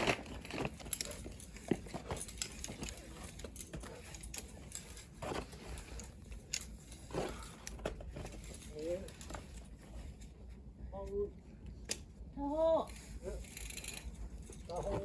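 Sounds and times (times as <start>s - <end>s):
metal climbing gear clinking: 0.0s - 10.5s, 11.8s - 15.0s.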